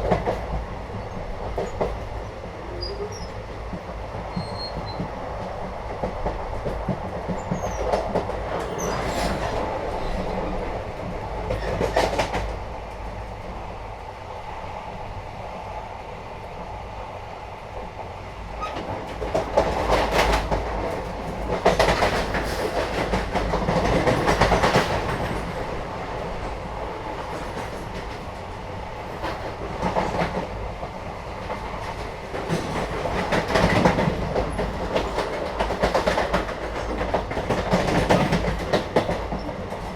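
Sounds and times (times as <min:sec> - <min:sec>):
wheels clacking on track: 0:00.0 - 0:13.2, 0:18.6 - 0:39.9
train carriage rumble: 0:00.0 - 0:39.9.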